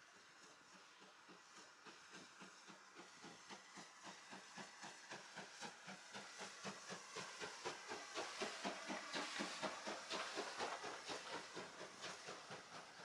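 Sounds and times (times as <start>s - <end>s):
steam locomotive chuffing: 0.0s - 13.0s.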